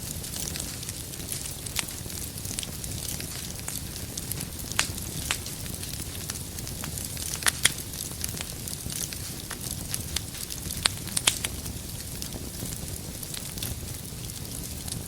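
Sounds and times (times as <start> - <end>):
firewood popping: 0.0 - 15.0
wood fire crackling: 0.0 - 15.0.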